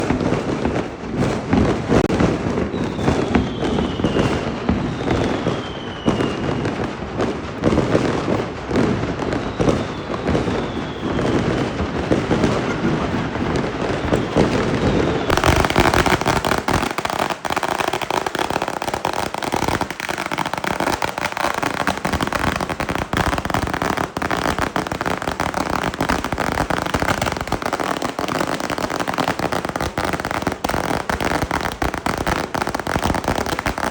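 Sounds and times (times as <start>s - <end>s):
fireworks popping and crackling: 0.0s - 33.9s
fireworks whistles falling in pitch: 1.6s - 33.9s.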